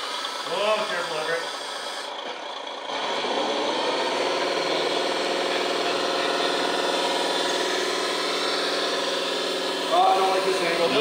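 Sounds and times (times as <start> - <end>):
simulated engine sound: 0.0 - 11.0.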